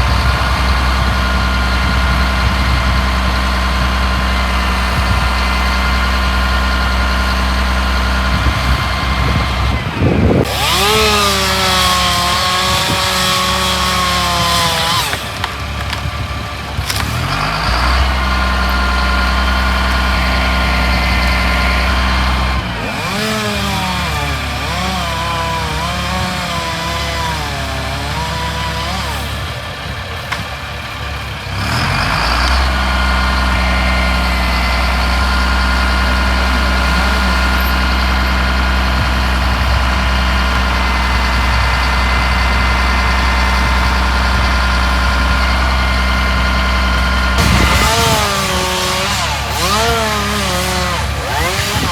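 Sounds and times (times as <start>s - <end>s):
engine revving under load: 0.0s - 51.9s
heavy engine idling: 0.0s - 51.9s.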